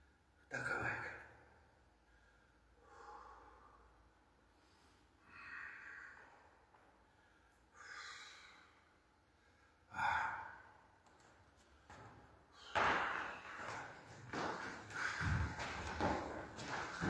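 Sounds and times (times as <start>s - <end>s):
slow human breathing: 1.8s - 17.0s.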